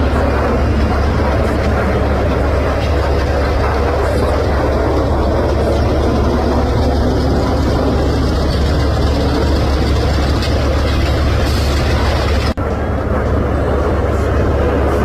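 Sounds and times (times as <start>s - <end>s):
fighter jet engines roaring: 0.0s - 15.0s.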